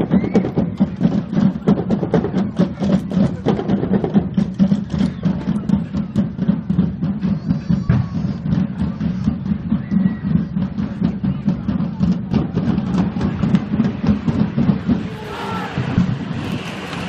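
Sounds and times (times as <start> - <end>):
band with rapid drumming: 0.0 - 17.0
crowd voices: 0.0 - 17.0.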